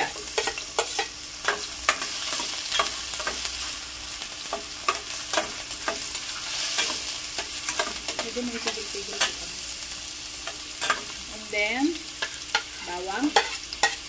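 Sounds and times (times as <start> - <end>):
metal spoon scraping a pan: 0.0 - 9.6, 10.4 - 11.2, 12.1 - 14.0
onion sizzling in hot oil: 0.0 - 14.0.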